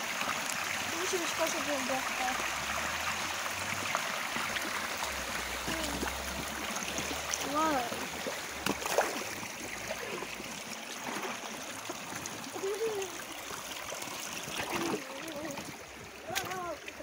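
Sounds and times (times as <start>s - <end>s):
stream splashing around wading legs: 0.0s - 17.0s.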